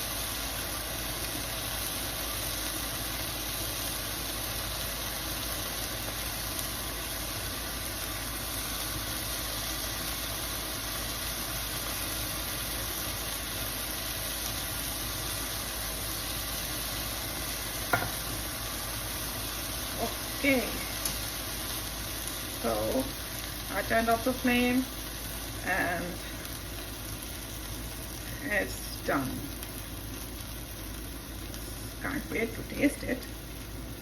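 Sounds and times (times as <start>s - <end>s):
gas stove flame rushing: 0.0s - 34.0s.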